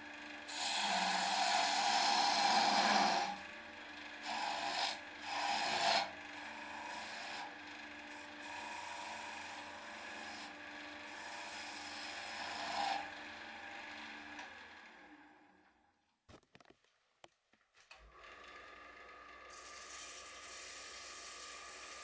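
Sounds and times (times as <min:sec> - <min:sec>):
chisel scraping spinning wood: 0:00.0 - 0:15.2, 0:18.6 - 0:22.0
lathe motor hum: 0:00.0 - 0:15.6, 0:18.1 - 0:22.0.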